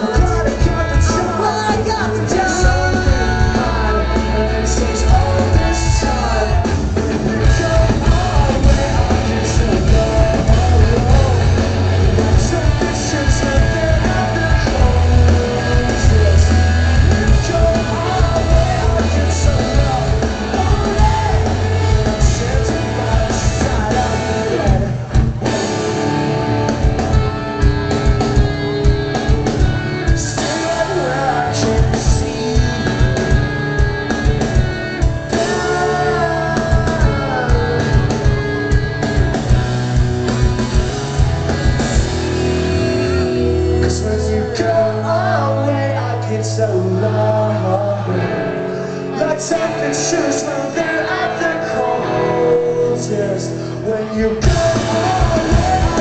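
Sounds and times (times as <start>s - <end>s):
person singing: 0.0s - 25.2s, 26.9s - 39.6s, 42.6s - 56.0s
rock band playing live: 0.0s - 56.0s.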